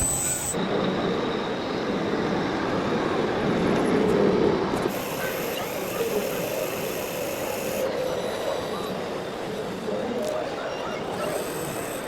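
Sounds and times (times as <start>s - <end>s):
model truck rumble and whine: 0.0s - 12.0s.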